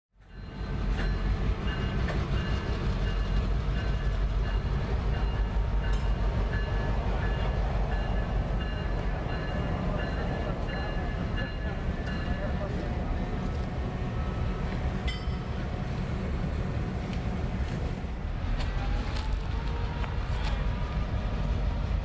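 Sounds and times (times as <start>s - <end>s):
locomotive engines rumbling: 0.2s - 22.0s.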